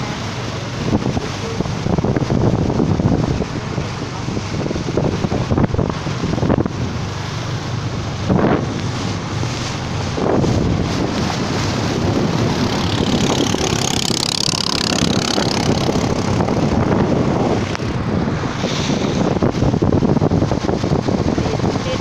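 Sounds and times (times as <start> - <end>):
motorboat engine running: 0.0 - 22.0
water rushing past hull: 0.0 - 22.0
wind buffeting microphone: 0.0 - 22.0.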